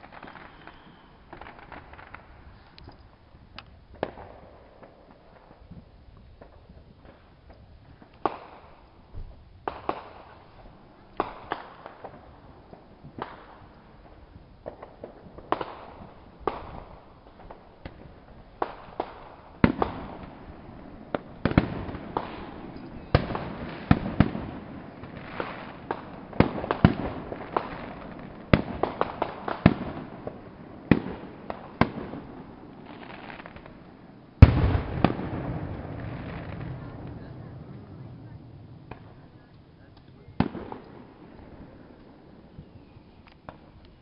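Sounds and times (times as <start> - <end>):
fireworks bangs echoing: 0.0 - 2.6, 3.9 - 5.7, 6.4 - 43.8.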